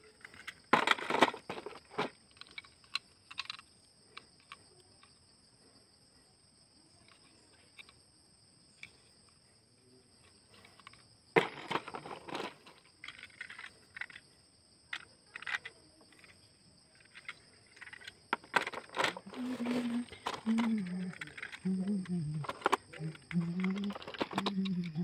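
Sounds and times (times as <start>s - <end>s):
plastic toy train clattering: 0.0s - 5.1s, 7.0s - 8.0s, 10.2s - 14.3s, 14.9s - 25.0s
insects buzzing: 0.0s - 25.0s.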